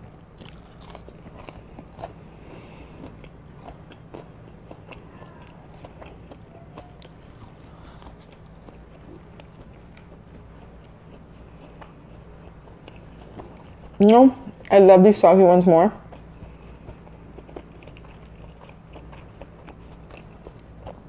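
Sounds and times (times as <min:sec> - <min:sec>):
close chewing with crunches: 0:00.0 - 0:15.0, 0:15.9 - 0:21.0.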